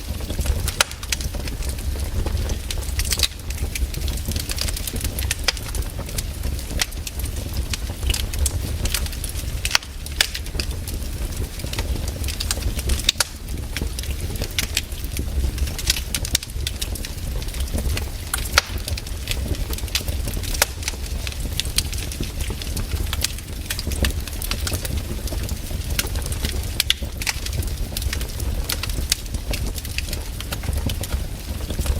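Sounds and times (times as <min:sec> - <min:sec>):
fireplace fire crackling: 0:00.0 - 0:31.9.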